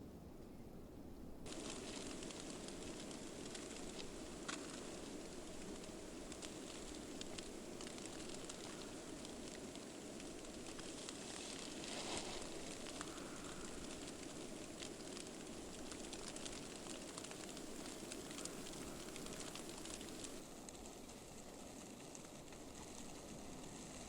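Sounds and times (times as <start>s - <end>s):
snow pattering in a blizzard: 1.4s - 24.0s.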